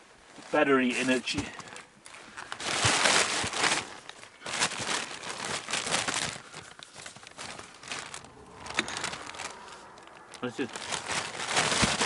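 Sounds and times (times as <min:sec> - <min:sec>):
plastic bag crinkling: 0:00.4 - 0:12.0.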